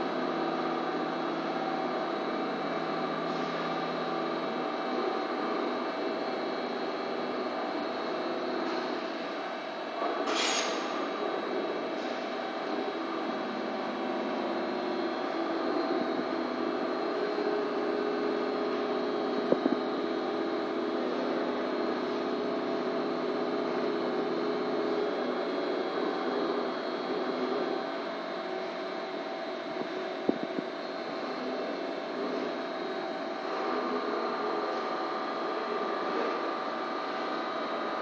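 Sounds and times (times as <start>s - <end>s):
steady machine hum: 0.0s - 38.0s.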